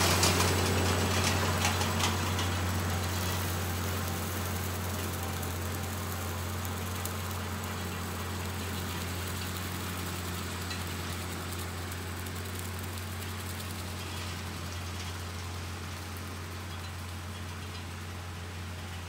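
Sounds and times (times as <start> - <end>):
tractor engine drone: 0.0 - 19.0.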